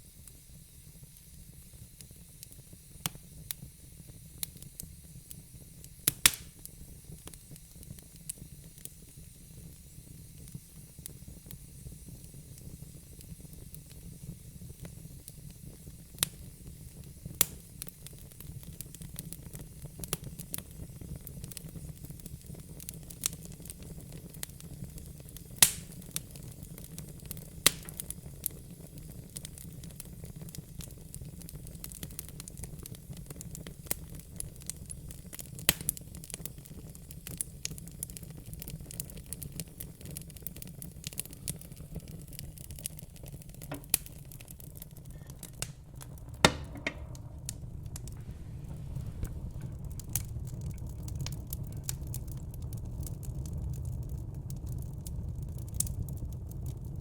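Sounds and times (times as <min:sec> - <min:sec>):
burning logs crackling: 0:00.0 - 0:57.0
low fire rumble: 0:00.0 - 0:57.0
sharp fire pops: 0:01.2 - 0:57.0.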